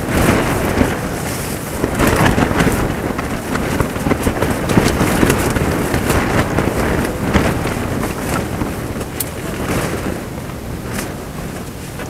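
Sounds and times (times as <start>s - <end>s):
heavy rain falling: 0.0s - 12.0s
wind: 0.0s - 12.0s.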